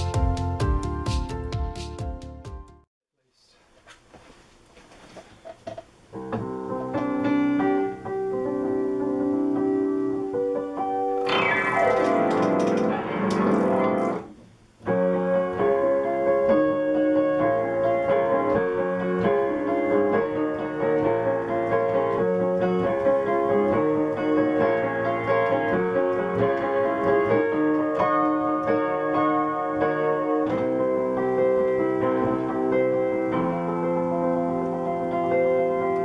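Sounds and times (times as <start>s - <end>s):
piano melody over chords: 0.0s - 2.9s, 6.1s - 36.0s.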